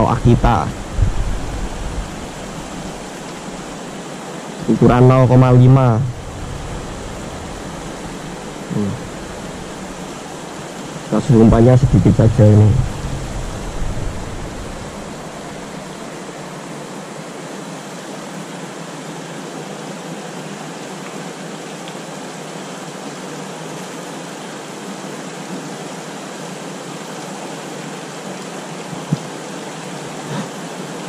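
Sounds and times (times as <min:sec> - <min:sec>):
river flowing over stones: 0:00.0 - 0:31.0.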